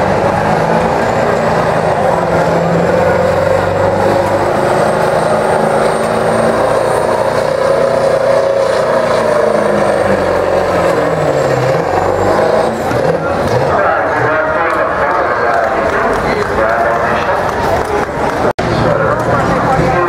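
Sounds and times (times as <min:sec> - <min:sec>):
diesel engine at full throttle: 0:00.0 - 0:20.0.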